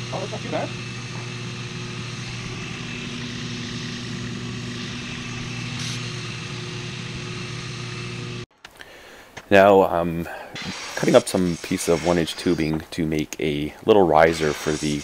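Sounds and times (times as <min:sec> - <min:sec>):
belt grinder motor hum: 0:00.0 - 0:08.4, 0:10.5 - 0:13.3, 0:14.2 - 0:15.0.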